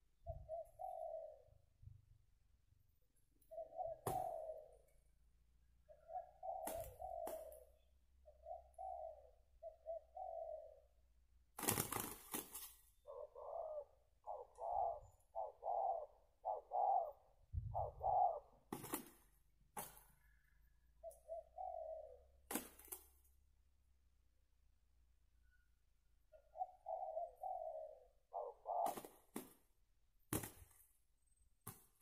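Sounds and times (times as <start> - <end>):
doves cooing: 0.0 - 2.4, 3.4 - 23.0, 26.3 - 30.6.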